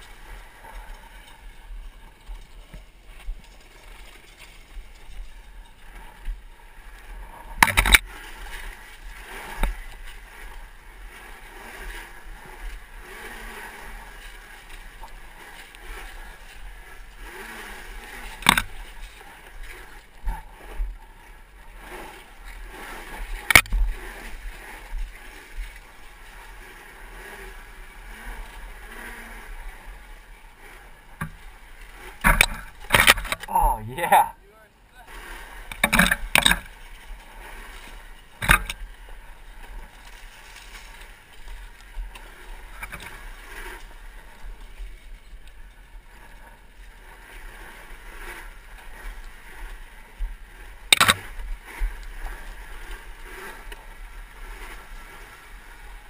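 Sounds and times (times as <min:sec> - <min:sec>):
dirt bike rattling over rocks: 0:00.0 - 0:56.0.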